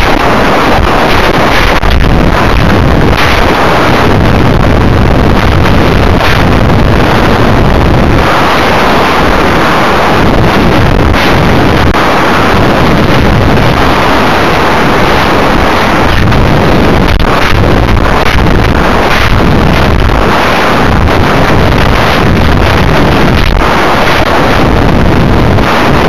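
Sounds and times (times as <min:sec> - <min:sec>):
wind rush buffeting microphone: 0:00.0 - 0:26.0.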